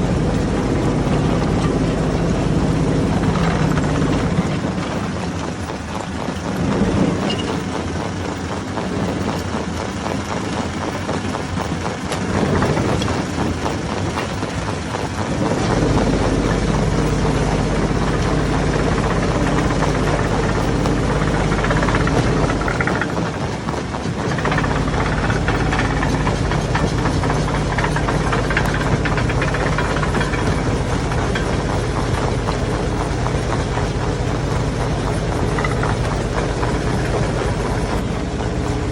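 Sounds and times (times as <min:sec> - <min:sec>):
deep machine hum: 0:00.0 - 0:10.3, 0:12.0 - 0:38.9
rock crusher rattling: 0:00.0 - 0:38.9.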